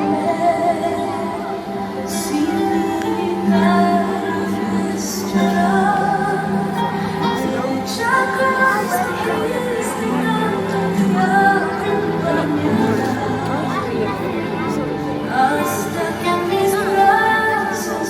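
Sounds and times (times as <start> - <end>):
sustained musical accompaniment: 0.0 - 18.0
woman singing held notes: 0.0 - 18.0.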